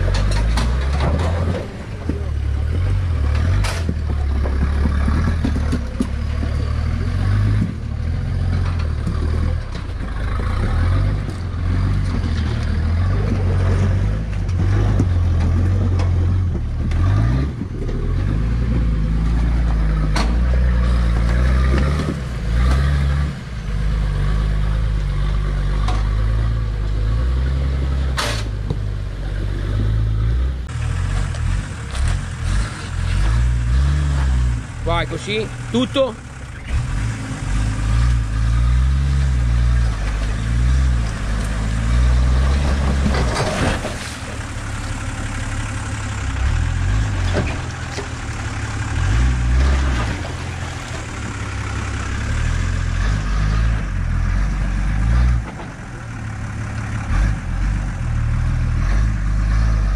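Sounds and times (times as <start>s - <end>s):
off-road engine at low revs: 0.0s - 59.9s.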